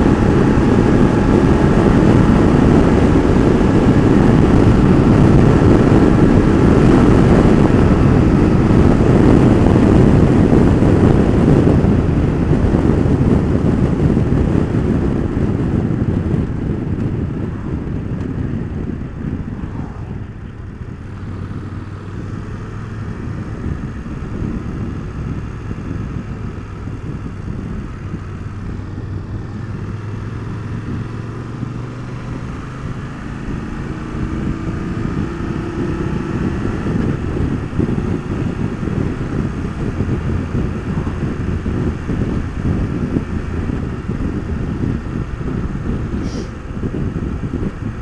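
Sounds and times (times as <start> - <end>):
motorcycle engine accelerating: 0.0 - 48.0
wind noise: 0.0 - 48.0.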